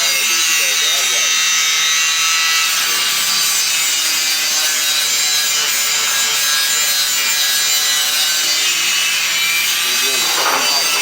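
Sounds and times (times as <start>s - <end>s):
metalworking tool noise: 0.0s - 11.0s.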